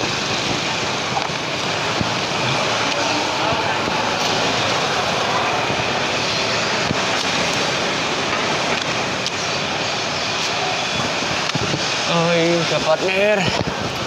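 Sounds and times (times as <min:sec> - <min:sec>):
busy road traffic: 0:00.0 - 0:14.0.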